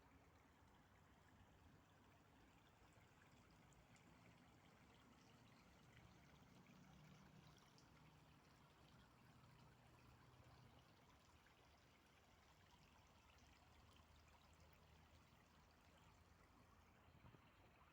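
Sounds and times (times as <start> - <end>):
faint running water: 0.1 - 17.9.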